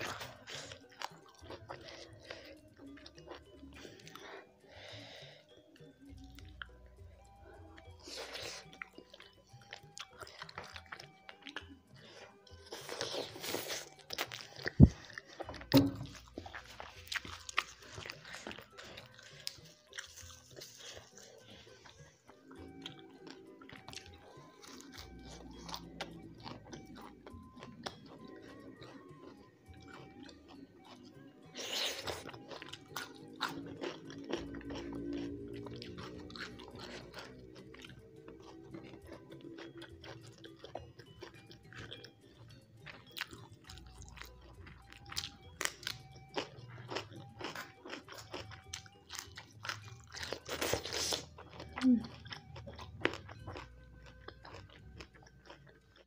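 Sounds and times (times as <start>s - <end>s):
chewing and crunching greens: 0.0s - 56.0s
soft background music: 0.0s - 56.0s.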